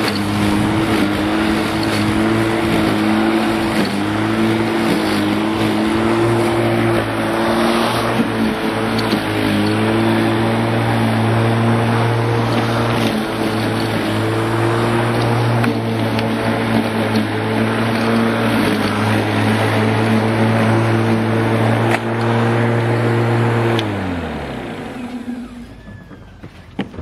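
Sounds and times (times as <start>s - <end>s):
electric motor humming: 0.0s - 25.8s
lawn mower blade cutting grass: 0.0s - 26.2s.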